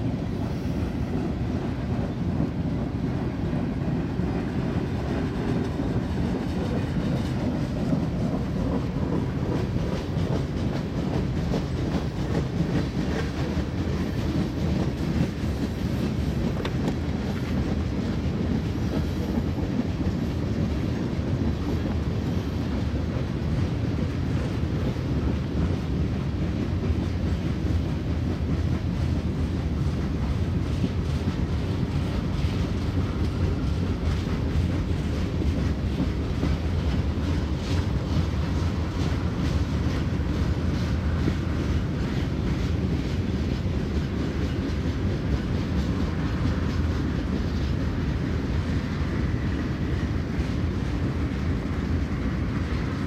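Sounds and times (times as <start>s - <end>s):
train wheels rumbling on rails: 0.0s - 53.0s
wheels clicking over rail joints: 1.2s - 49.1s.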